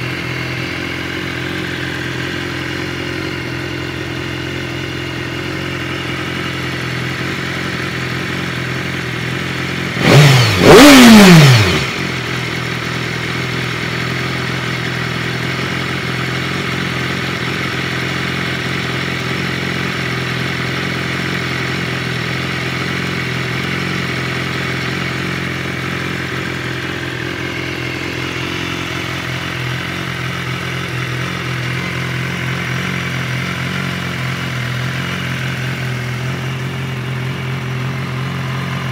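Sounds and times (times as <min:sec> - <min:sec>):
motorcycle engine idling: 0:00.0 - 0:38.9
motorcycle throttle blips: 0:00.0 - 0:38.9.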